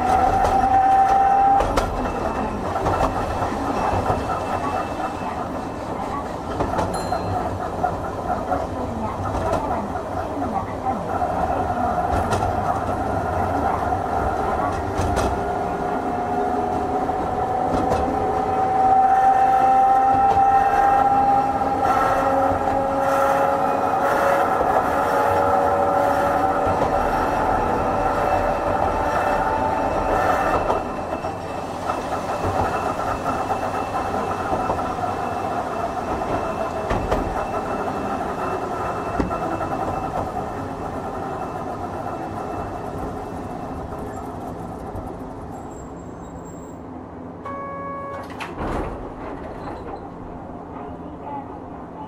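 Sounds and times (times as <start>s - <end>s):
tram motor and gear whine: 0.0s - 51.1s
wheel and rail rumble: 0.0s - 52.0s.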